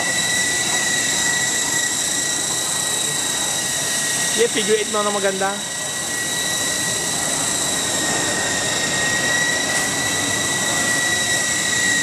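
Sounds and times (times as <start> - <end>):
electric motor high whine: 0.0 - 12.0.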